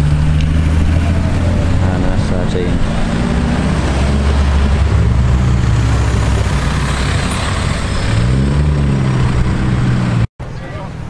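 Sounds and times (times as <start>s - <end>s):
car accelerating past: 0.0s - 10.3s
car exhaust drone passing: 0.0s - 10.3s
road noise: 0.0s - 11.0s.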